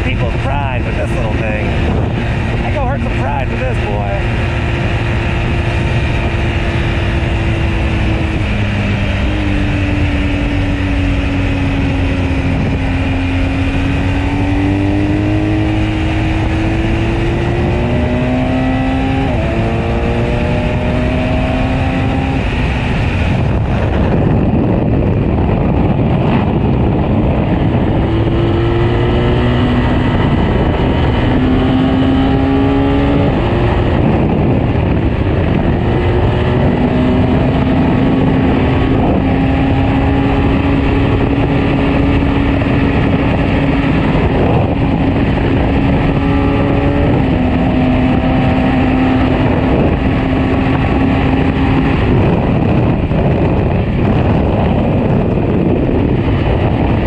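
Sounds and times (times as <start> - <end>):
motorcycle engine revving: 0.0 - 57.0
wind and road rush: 0.0 - 57.0.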